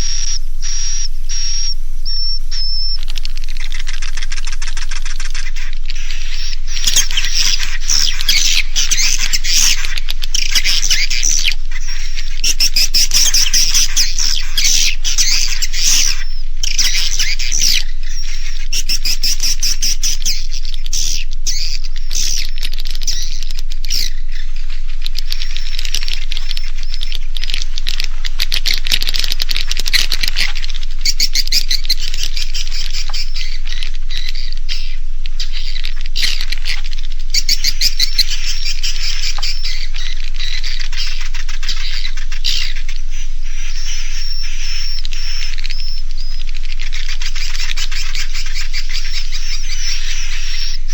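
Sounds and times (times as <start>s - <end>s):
swiftlets twittering and chirping: 0.0s - 50.9s.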